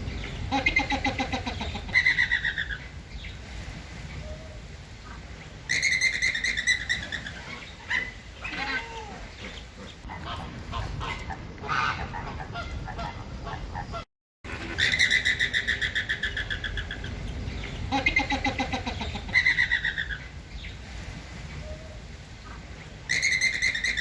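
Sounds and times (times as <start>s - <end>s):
flamingos honking: 0.0s - 3.0s, 4.2s - 20.3s, 21.6s - 24.0s.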